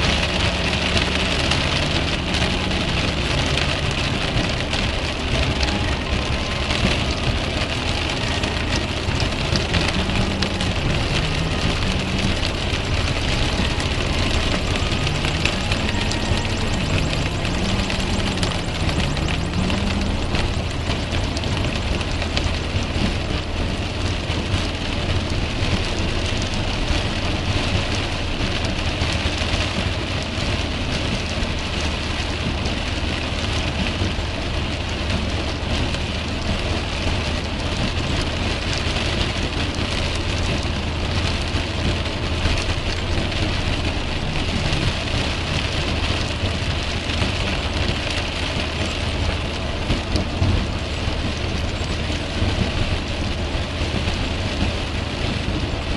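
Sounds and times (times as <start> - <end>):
heavy rain on car roof: 0.0 - 55.9
tyres on wet road: 0.0 - 55.9.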